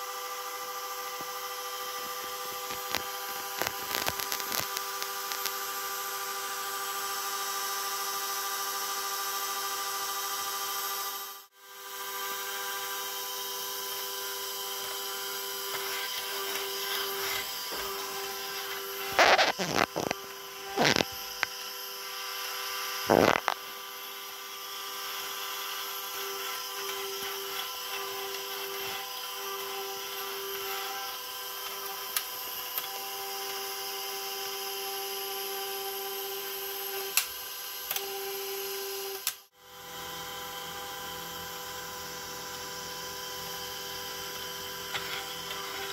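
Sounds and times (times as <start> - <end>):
gyro electric hum and whine: 0.0 - 45.9.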